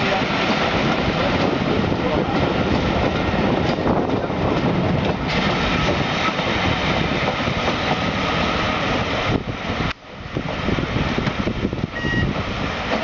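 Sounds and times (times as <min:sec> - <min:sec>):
steam train rumbling past: 0:00.0 - 0:13.0.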